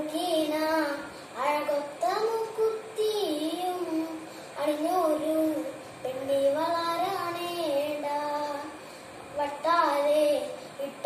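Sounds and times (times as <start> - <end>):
boy singing unaccompanied: 0.0 - 8.8, 9.4 - 11.0.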